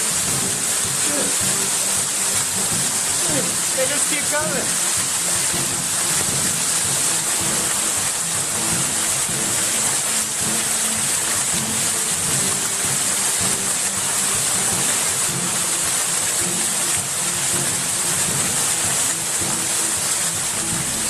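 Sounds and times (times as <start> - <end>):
rushing water hiss: 0.0 - 21.0.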